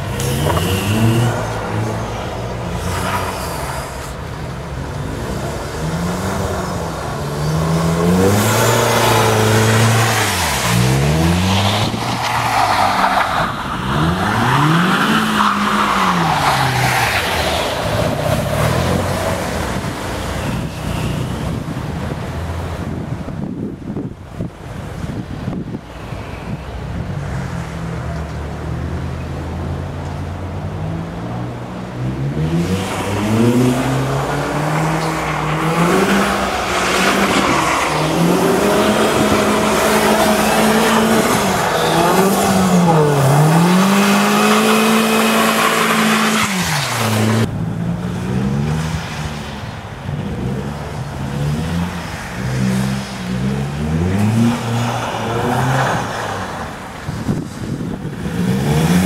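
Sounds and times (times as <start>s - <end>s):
car engine revving: 0.0s - 22.2s, 30.8s - 59.0s.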